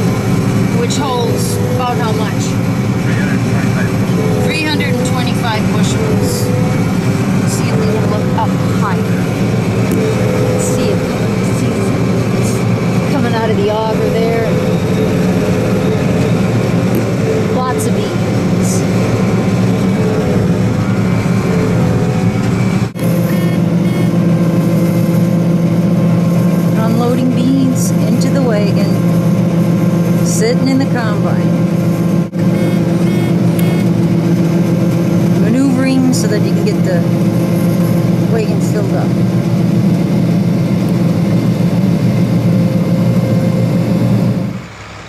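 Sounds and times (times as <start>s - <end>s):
combine harvester running: 0.0s - 45.0s.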